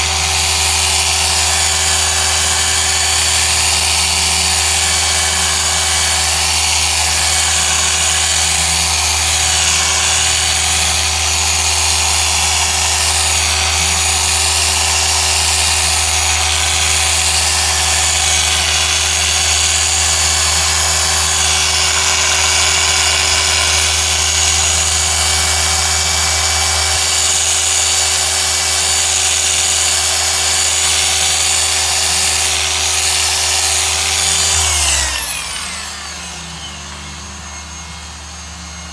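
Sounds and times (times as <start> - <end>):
polisher motor whine: 0.0 - 38.9.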